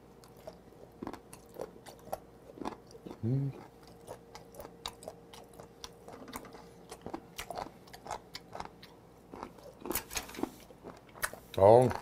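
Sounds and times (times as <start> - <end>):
wet chewing: 0.2 - 12.0.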